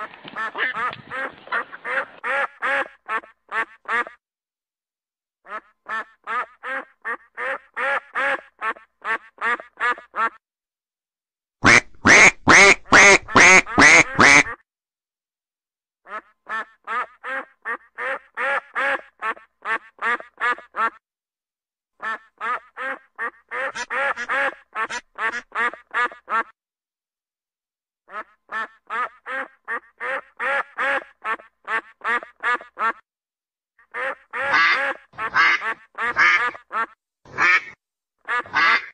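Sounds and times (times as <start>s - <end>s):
duck quacking: 0.3s - 4.2s, 5.4s - 10.4s, 11.6s - 14.6s, 16.0s - 21.0s, 22.0s - 26.6s, 28.1s - 33.0s, 33.8s - 38.9s.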